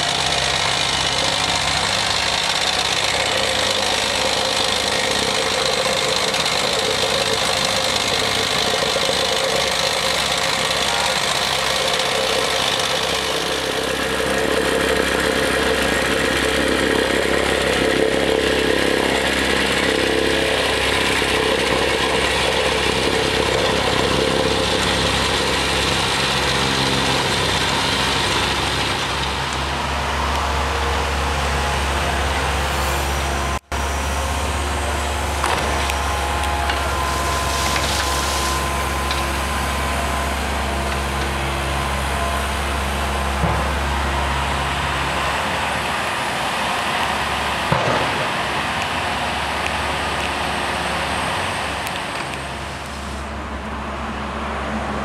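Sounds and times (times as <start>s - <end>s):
excavator diesel engines running: 0.0s - 55.0s.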